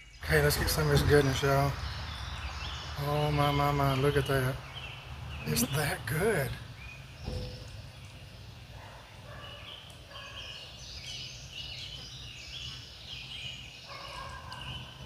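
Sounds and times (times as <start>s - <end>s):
songbirds whistling: 0.0s - 15.0s.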